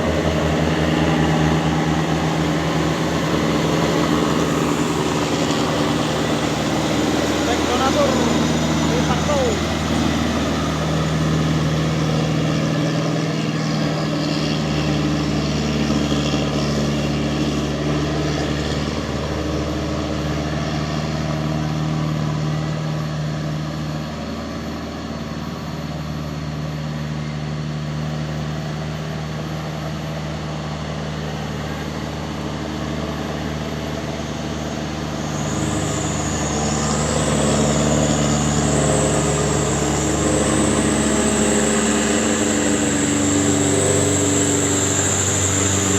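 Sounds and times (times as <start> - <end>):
high wavering whine: 0.0 - 45.9
truck diesel engine running: 0.0 - 45.9.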